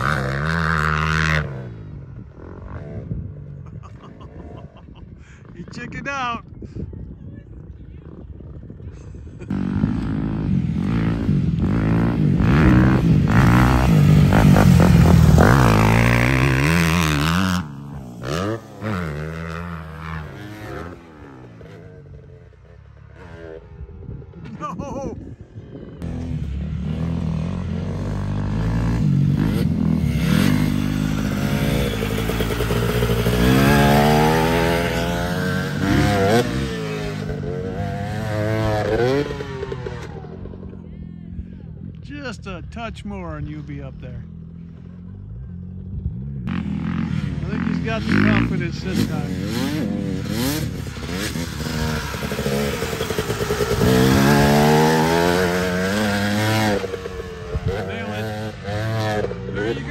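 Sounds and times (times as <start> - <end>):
dirt bike engine revving: 0.0 - 3.2, 9.4 - 24.4, 26.0 - 40.7, 44.2 - 59.9.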